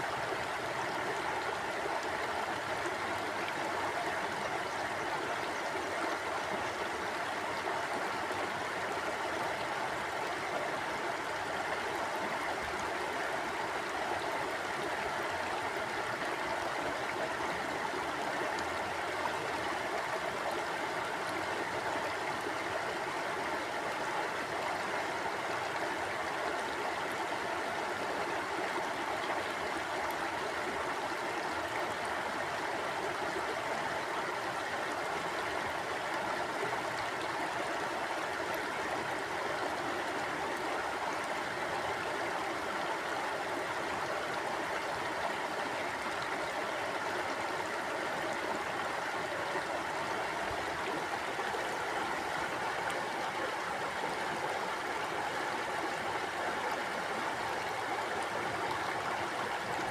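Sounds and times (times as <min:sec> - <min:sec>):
stream water gurgling: 0:00.0 - 0:59.9.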